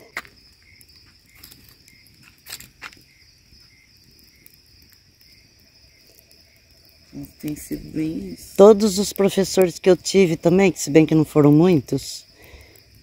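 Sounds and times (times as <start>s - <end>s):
campfire crackling pops: 0.0s - 13.0s
crickets chirping: 0.0s - 13.0s.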